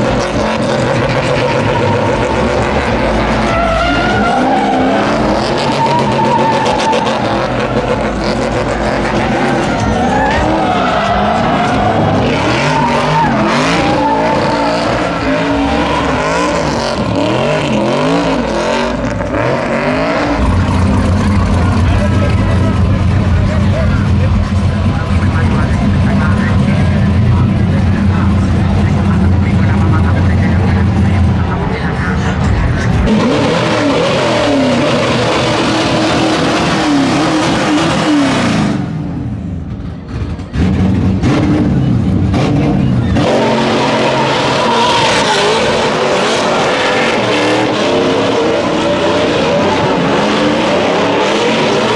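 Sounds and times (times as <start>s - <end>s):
tires squealing: 0.0s - 51.9s
truck engine revving hard: 0.0s - 51.9s.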